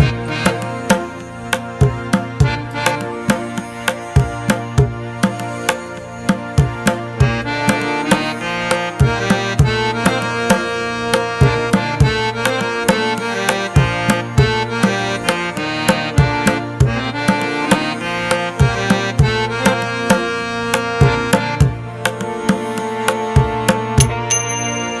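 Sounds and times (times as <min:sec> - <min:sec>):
hand drum beat: 0:00.0 - 0:08.3, 0:09.0 - 0:17.8, 0:18.6 - 0:25.0
sustained melodic instrument: 0:00.0 - 0:25.0.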